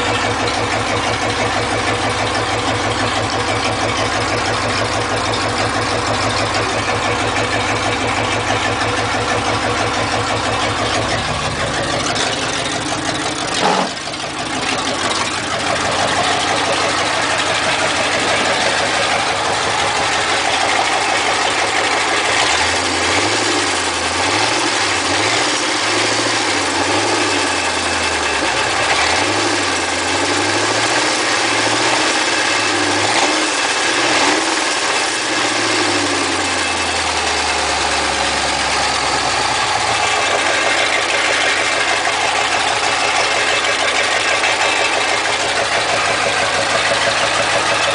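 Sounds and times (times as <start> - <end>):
car engine idling: 0.0 - 47.9
engine jolt: 0.0 - 47.9.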